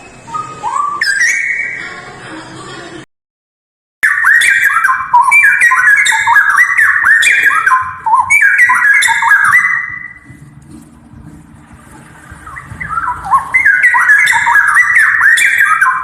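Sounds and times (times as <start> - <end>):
bird singing whistled notes: 0.0 - 1.8, 4.0 - 16.0.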